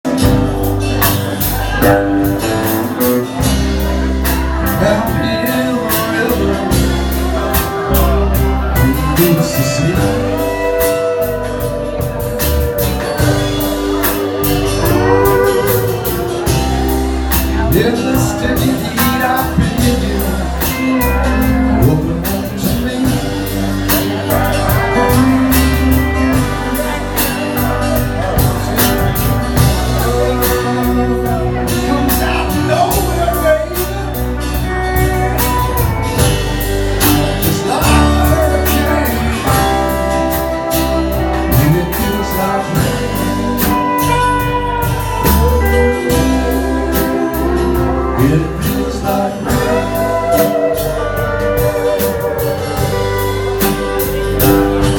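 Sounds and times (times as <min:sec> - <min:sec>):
bass: 0:00.0 - 0:54.9
drums: 0:00.0 - 0:54.9
guitar: 0:00.0 - 0:54.9
person singing: 0:00.0 - 0:54.9.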